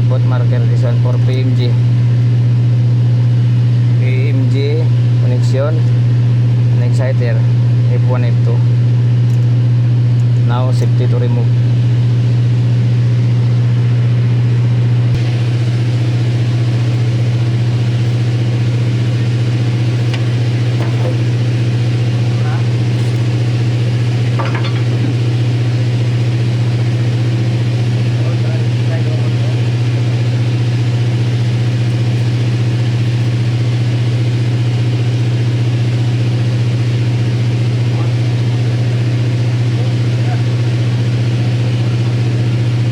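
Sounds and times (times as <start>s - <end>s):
large engine droning: 0.0s - 42.9s.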